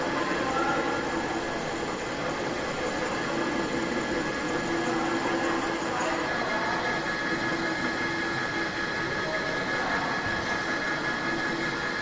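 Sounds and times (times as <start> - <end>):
lathe humming and whining: 0.0 - 12.0.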